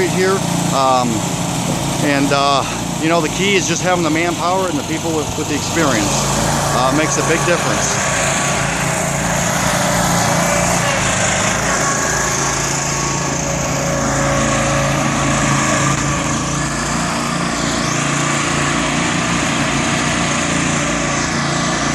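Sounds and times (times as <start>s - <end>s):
small gasoline engine running: 0.0s - 21.9s.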